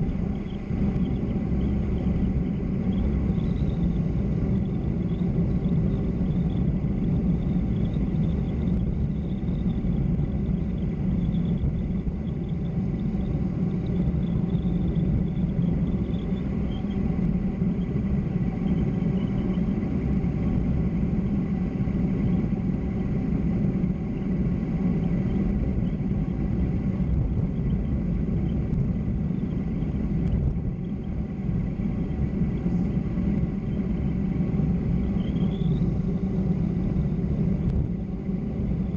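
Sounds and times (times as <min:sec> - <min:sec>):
road noise: 0:00.0 - 0:38.9
wind rumble: 0:00.0 - 0:38.9.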